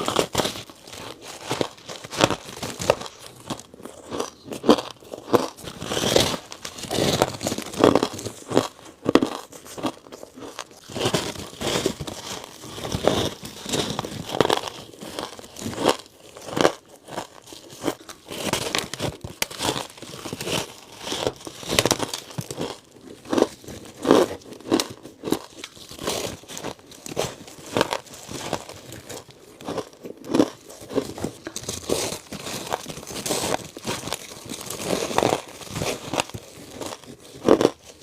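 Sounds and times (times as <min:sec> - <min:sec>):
ice crunching between teeth: 0:00.0 - 0:38.0.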